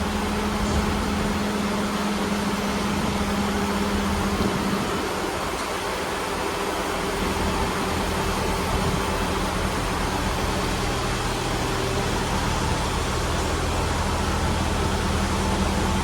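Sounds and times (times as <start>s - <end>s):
diesel train engine idling: 0.0s - 16.0s.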